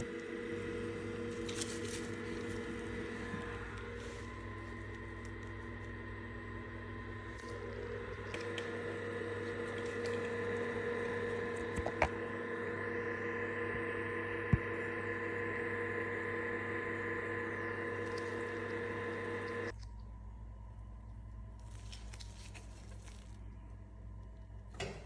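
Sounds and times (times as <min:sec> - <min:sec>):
lamp electrical hum and whine: 0:00.0 - 0:25.0.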